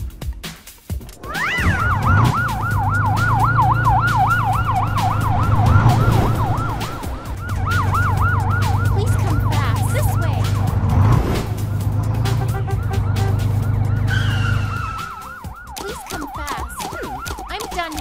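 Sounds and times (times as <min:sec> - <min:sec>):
siren yelping: 0:01.0 - 0:11.0, 0:11.8 - 0:18.0
low drone: 0:01.0 - 0:15.5.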